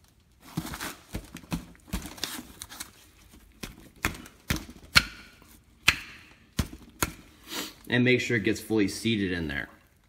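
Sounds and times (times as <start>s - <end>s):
gloved hands rustling: 0.0s - 8.8s.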